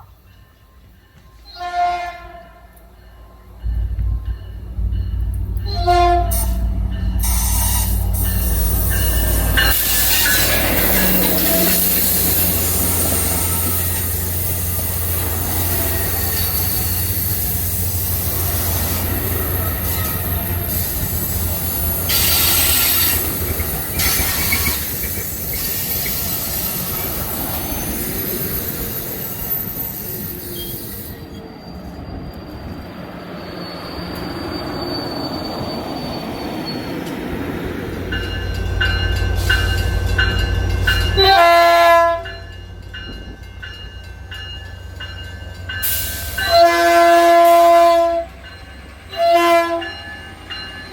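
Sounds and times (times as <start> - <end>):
train rumbling by: 0.0 - 50.9
train wheels squealing on rails: 2.7 - 50.9.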